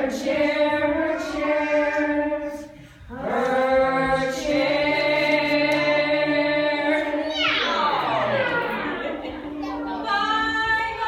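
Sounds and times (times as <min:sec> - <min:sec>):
group singing long notes: 0:00.0 - 0:11.0.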